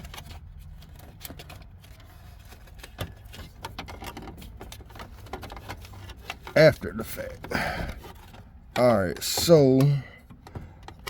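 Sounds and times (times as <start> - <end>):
plastic parts clicking and tapping: 0.0 - 11.0.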